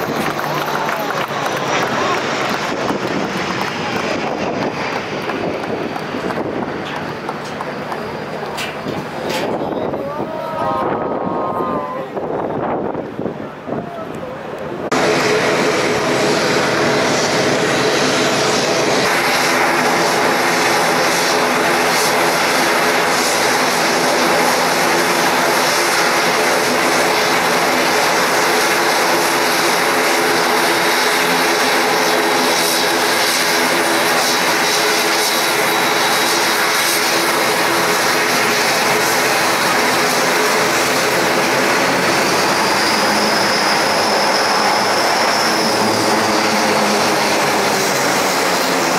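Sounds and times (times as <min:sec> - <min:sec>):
high engine whine: 0:00.0 - 0:48.9
propeller drone: 0:00.0 - 0:48.9.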